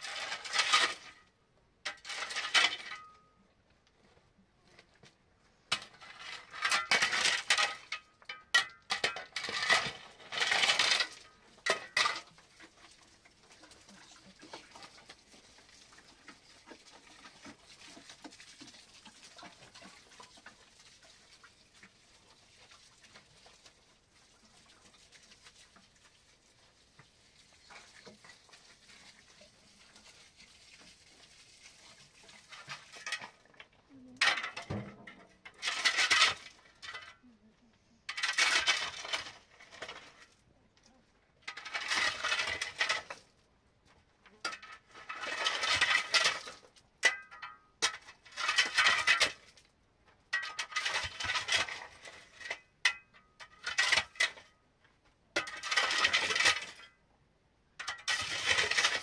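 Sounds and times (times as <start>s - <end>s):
gritty scraping and clinking: 0.0s - 20.6s, 27.3s - 37.4s, 38.0s - 57.1s, 57.8s - 59.0s.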